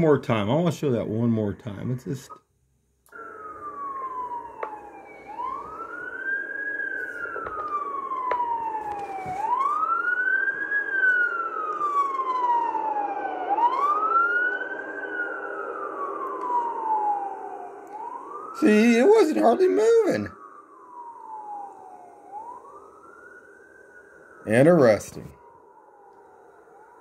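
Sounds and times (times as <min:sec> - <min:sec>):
fire truck siren wailing: 0:03.1 - 0:27.0.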